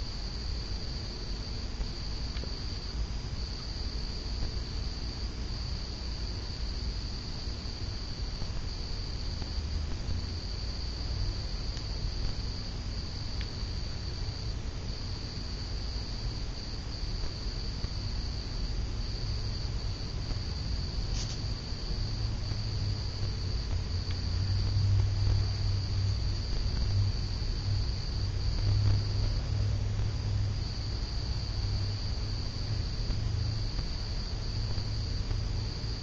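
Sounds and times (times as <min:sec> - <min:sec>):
ceiling fan humming and whining: 0:00.0 - 0:36.0.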